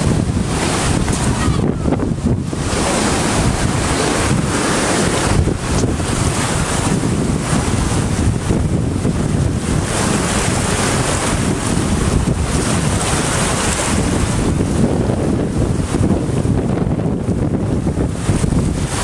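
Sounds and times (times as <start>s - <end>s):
fast-flowing river rushing: 0.0s - 19.0s
wind buffeting microphone: 0.0s - 19.0s.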